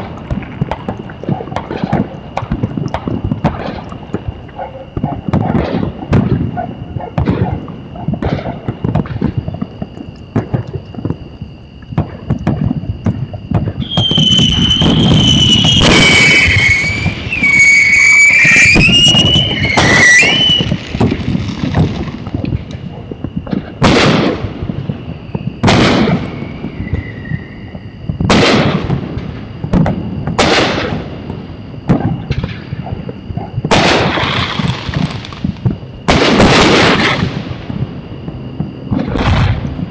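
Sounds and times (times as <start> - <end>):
fireworks popping and banging: 0.0 - 6.6, 7.2 - 11.2, 11.9 - 27.4, 28.1 - 39.9
fireworks whistling: 0.0 - 39.9.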